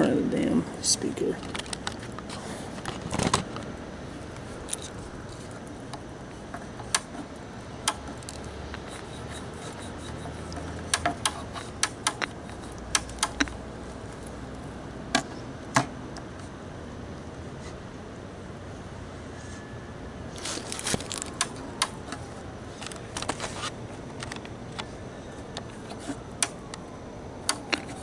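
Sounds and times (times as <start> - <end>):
faint hiss and low hum: 0.0 - 28.0.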